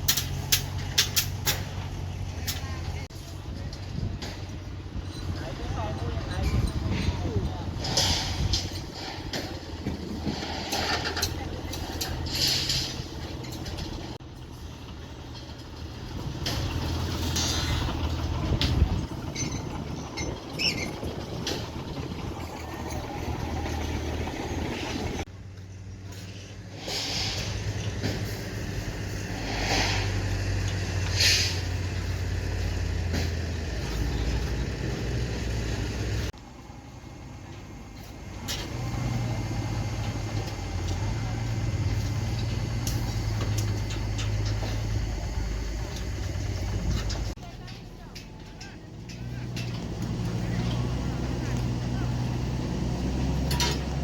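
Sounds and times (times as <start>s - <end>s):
heavy machinery engine rumble: 0.0s - 54.0s.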